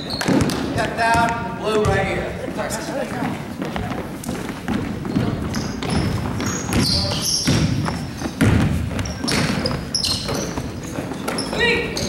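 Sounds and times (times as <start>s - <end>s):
sneakers squeaking on court: 0.0s - 2.2s, 3.2s - 12.0s
basketball bouncing: 0.1s - 2.2s, 3.6s - 12.0s.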